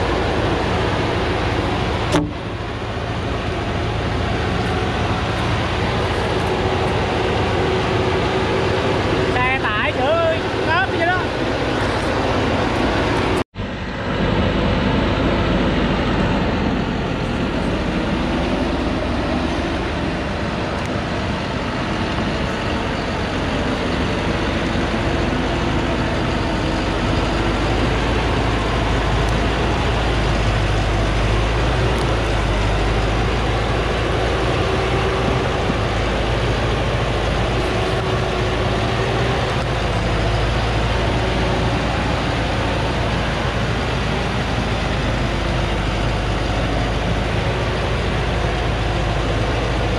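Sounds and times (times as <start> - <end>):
truck diesel engine labouring: 0.0 - 49.9.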